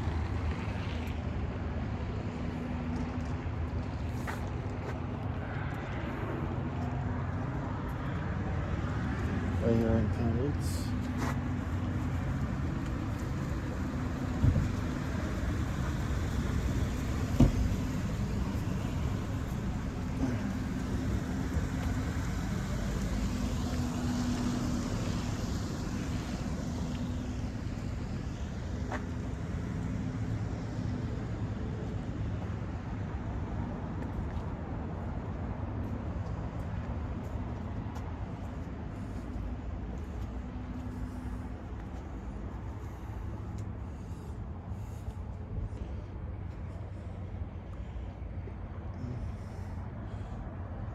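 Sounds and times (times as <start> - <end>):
traffic rumble: 0.0 - 50.9.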